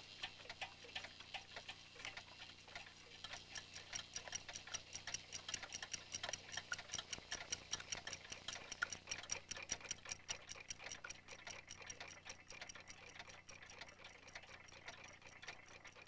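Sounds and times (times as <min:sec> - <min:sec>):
clock ticking faintly: 0:00.0 - 0:16.0.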